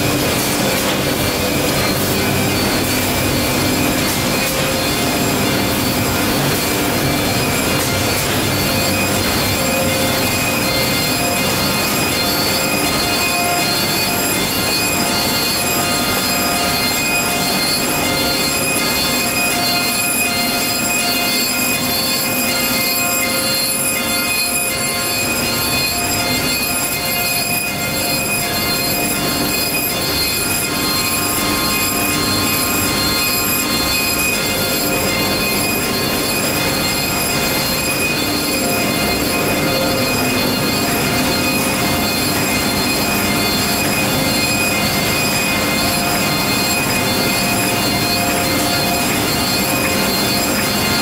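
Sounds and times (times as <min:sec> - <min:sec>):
loud machine noise: 0:00.0 - 0:51.0.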